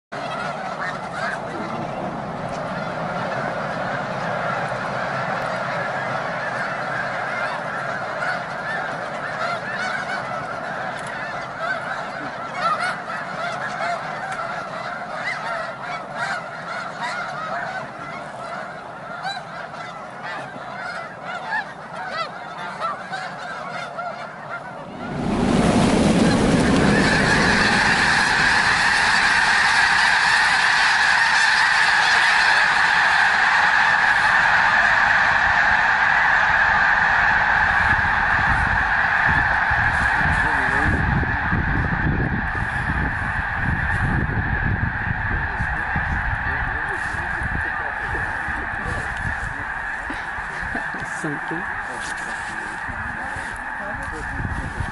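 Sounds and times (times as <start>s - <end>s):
geese honking: 0.1s - 54.9s
rush of wingbeats: 0.2s - 54.9s.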